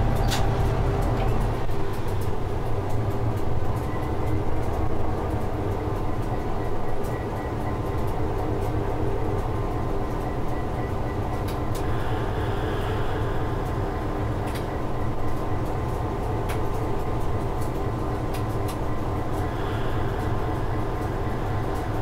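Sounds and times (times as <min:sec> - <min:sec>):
locomotive engine rumble: 0:00.0 - 0:22.0.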